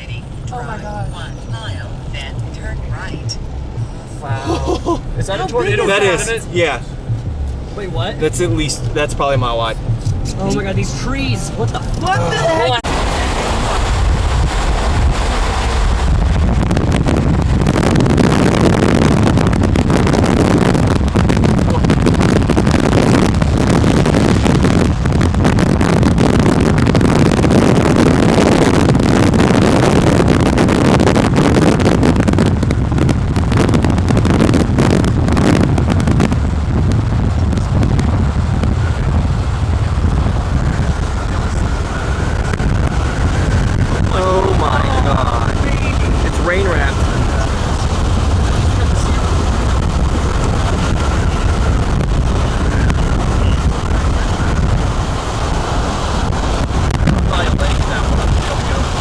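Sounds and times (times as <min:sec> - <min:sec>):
strong wind on microphone: 0:00.0 - 0:59.0
crackles: 0:04.8 - 0:59.0.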